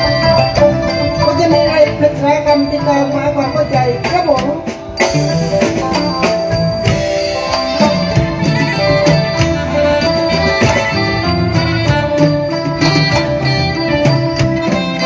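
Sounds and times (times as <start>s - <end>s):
held melodic notes: 0.0s - 15.0s
percussion strikes: 0.0s - 15.0s.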